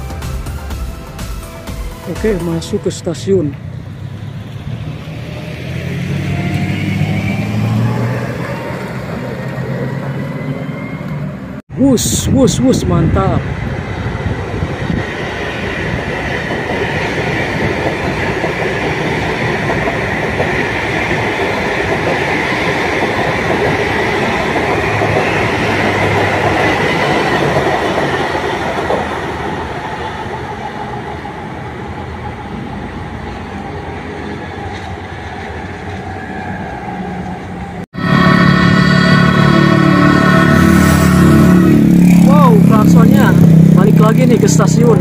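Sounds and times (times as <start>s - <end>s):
electric train passing: 0.0s - 45.0s.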